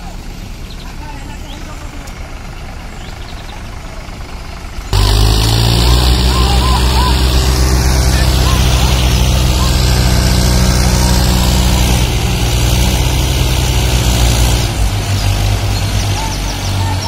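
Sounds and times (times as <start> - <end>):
tractor engines under load: 0.0 - 17.0.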